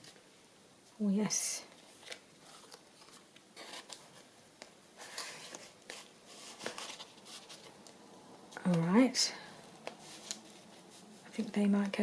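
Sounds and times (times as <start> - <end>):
paper and card rustling: 1.7 - 9.2, 9.8 - 12.0.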